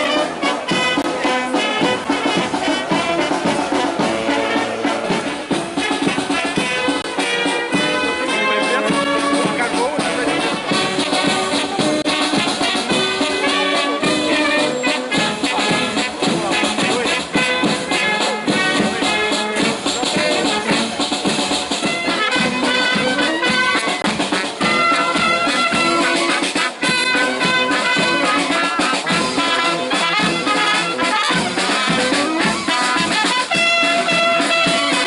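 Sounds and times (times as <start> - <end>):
bass drum: 0.0 - 35.0
marching brass band playing: 0.0 - 35.0.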